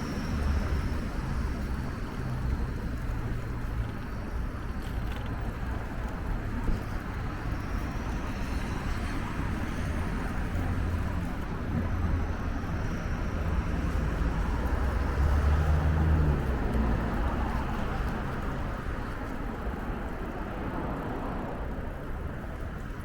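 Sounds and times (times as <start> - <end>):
bicycle riding rumble: 0.0 - 23.0
road traffic: 0.0 - 23.0.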